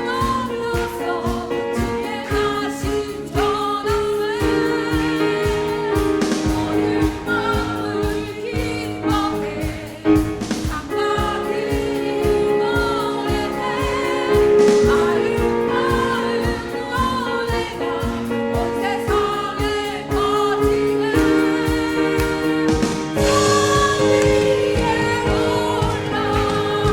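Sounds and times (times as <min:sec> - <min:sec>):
vocal ensemble singing a carol: 0:00.0 - 0:26.9
steady low beat: 0:04.4 - 0:26.9.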